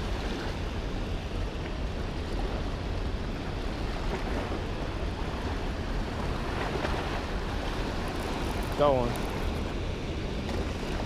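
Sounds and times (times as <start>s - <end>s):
rushing water: 0.0s - 11.0s
wind buffeting microphone: 0.0s - 11.0s.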